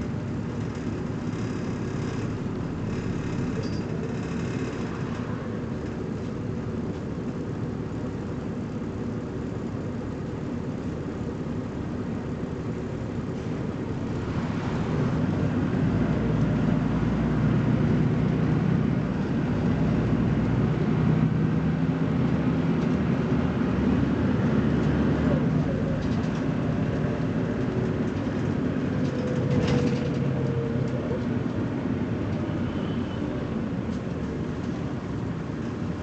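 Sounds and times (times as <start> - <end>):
bus engine running: 0.0 - 36.0.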